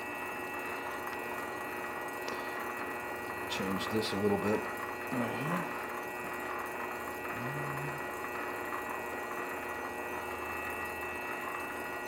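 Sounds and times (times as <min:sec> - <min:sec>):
lathe motor humming with whine: 0:00.0 - 0:12.0.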